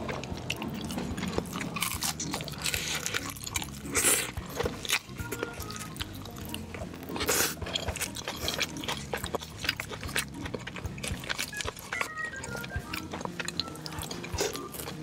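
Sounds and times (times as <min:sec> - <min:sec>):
wet chewing and mouth smacking: 0:00.0 - 0:15.0.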